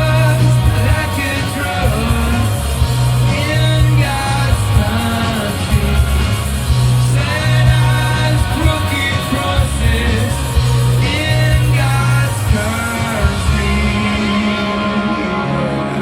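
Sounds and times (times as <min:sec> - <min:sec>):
lead vocal singing: 0:00.0 - 0:16.0
live rock band playing: 0:00.0 - 0:16.0.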